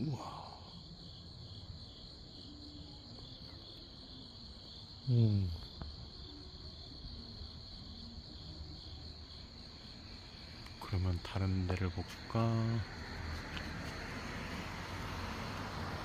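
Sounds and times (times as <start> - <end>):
crickets chirping: 0.0 - 16.0
pulsing insect chorus: 0.0 - 16.0.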